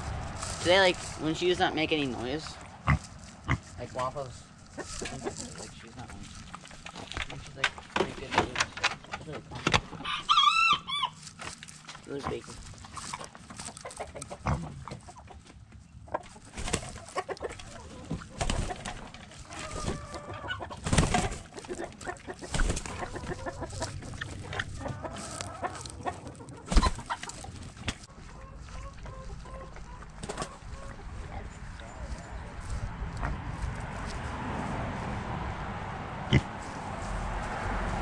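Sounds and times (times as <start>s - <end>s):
hens clucking: 0.0s - 34.5s.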